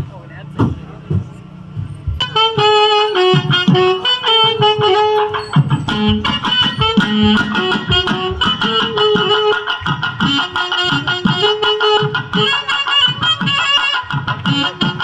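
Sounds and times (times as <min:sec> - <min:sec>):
low regular thumps: 0:00.0 - 0:15.0
quick melody of separate notes: 0:02.1 - 0:15.0.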